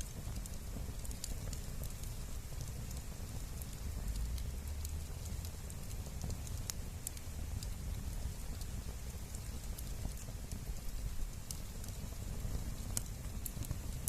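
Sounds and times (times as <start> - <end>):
campfire crackling and popping: 0.0 - 14.0
low steady rumble: 0.0 - 14.0.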